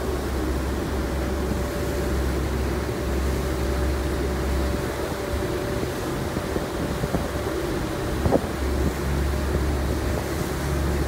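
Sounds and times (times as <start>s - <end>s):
boat engines droning: 0.0s - 11.0s
water rushing past hull: 0.0s - 11.0s.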